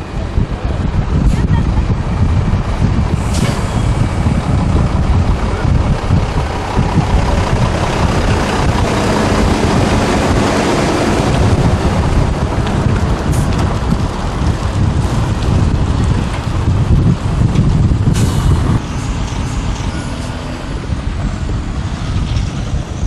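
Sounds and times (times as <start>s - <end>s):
truck diesel engine passing: 0.0s - 23.0s
wind buffeting microphone: 0.0s - 23.0s.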